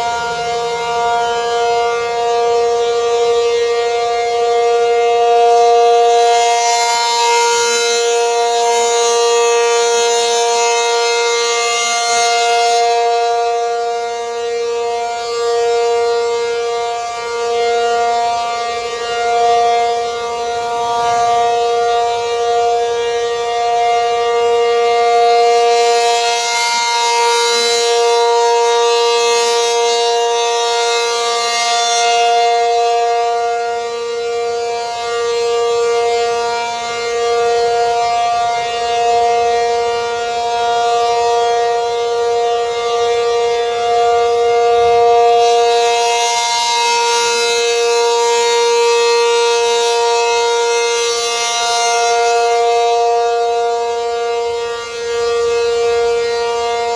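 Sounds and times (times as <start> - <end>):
warning siren steady tone: 0.0 - 56.9.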